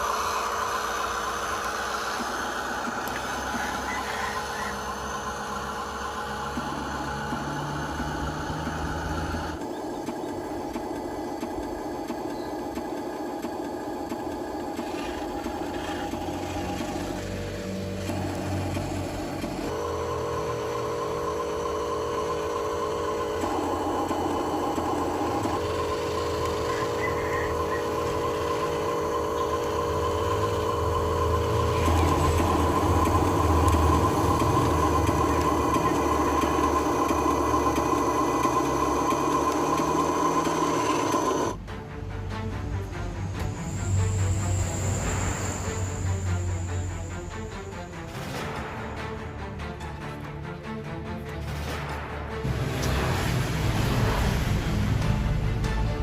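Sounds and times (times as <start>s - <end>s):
small electric motors whirring: 0.0s - 41.6s, 42.9s - 48.2s.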